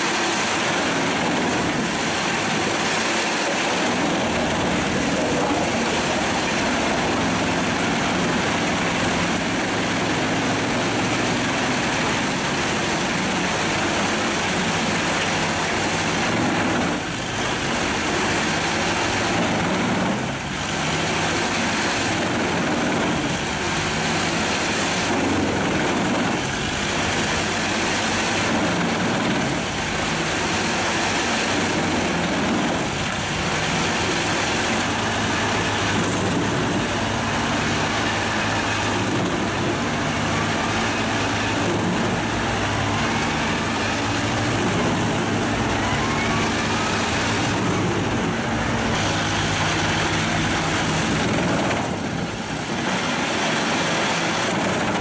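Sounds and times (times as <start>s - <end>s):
truck engine running: 0.0s - 55.0s
wood chipper chipping logs: 0.0s - 55.0s.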